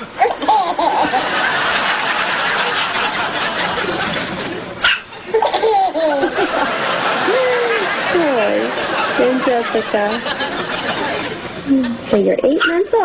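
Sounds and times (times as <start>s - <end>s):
soft chuckling and laughter: 0.3s - 12.1s.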